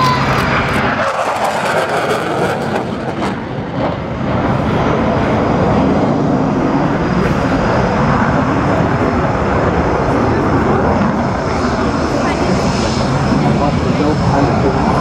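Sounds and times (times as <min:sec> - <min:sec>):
loud jet noise: 0:00.0 - 0:15.0.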